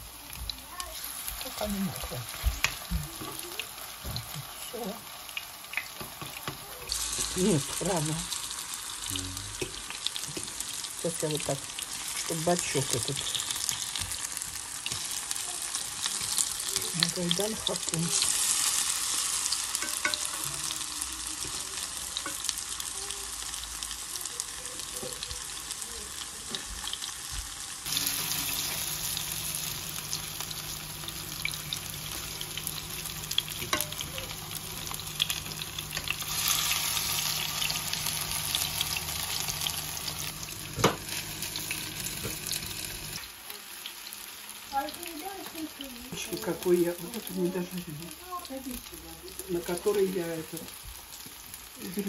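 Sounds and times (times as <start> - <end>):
fritters sizzling in oil: 0.0 - 52.0.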